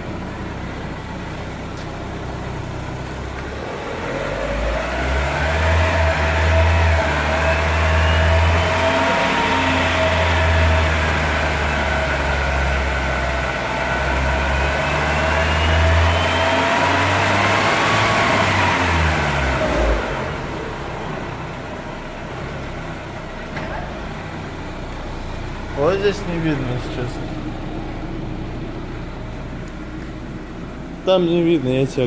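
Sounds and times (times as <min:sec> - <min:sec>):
car engine revving: 0:02.3 - 0:31.0.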